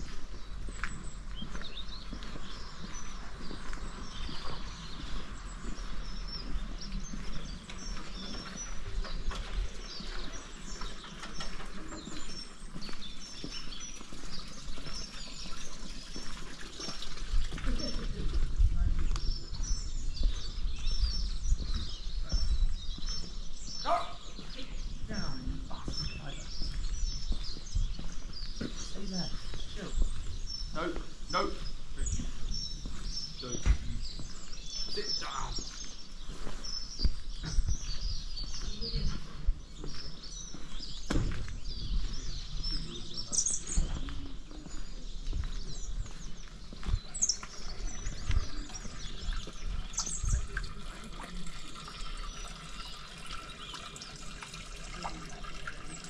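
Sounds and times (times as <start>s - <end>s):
footsteps on road: 0.0s - 50.4s
small birds chirping: 0.0s - 56.0s.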